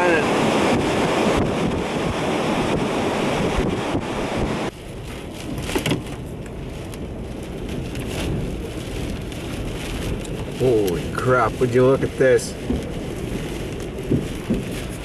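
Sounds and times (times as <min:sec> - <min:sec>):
rain: 0:00.0 - 0:15.0
storm wind on microphone: 0:00.0 - 0:15.0.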